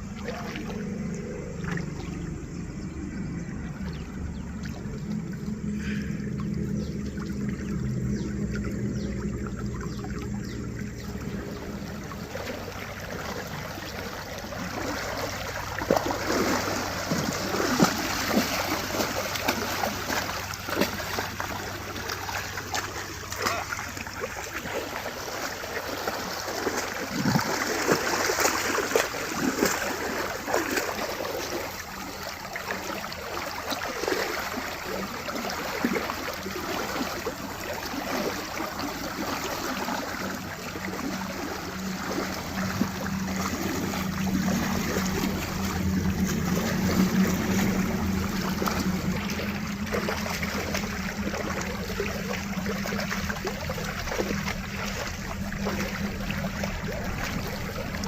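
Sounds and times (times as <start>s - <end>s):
running water: 0.0s - 58.0s
steady low hum: 0.0s - 58.0s
cattle splashing through water: 10.0s - 58.0s.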